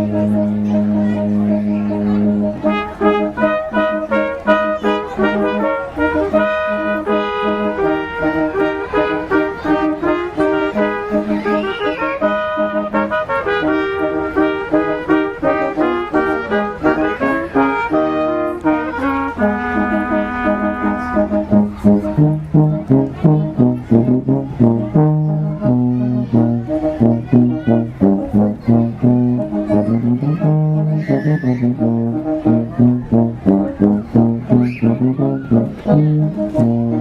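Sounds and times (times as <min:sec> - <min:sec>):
music with melody and bass: 0:00.0 - 0:37.0.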